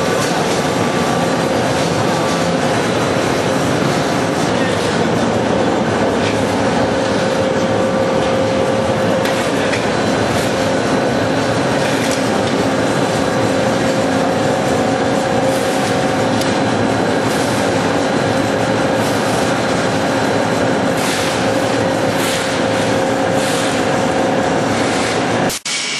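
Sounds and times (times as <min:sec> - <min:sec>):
pellet mill drone: 0:00.0 - 0:25.9.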